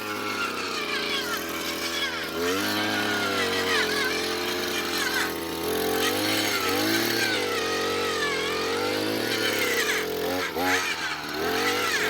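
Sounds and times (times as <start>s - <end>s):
small engine labouring: 0.0s - 12.0s.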